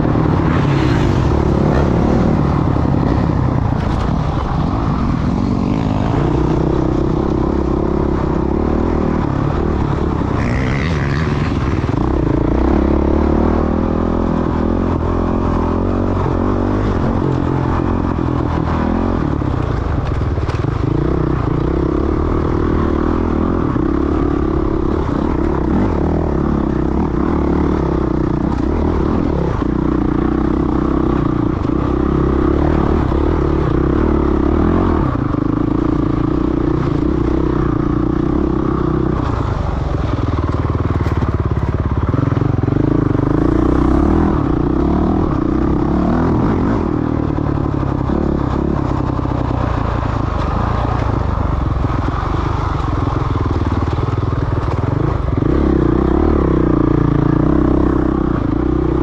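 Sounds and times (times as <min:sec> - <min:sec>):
dirt bike engine: 0:00.0 - 0:59.0.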